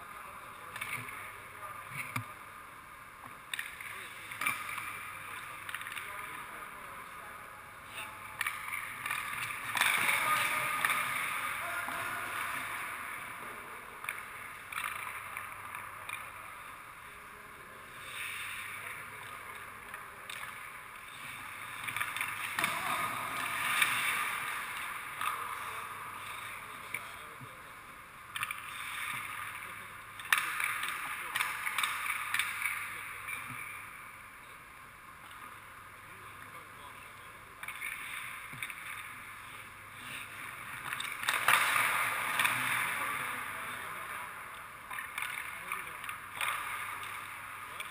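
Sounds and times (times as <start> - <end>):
hockey sticks and pucks clacking: 0.0 - 17.2, 17.8 - 47.9.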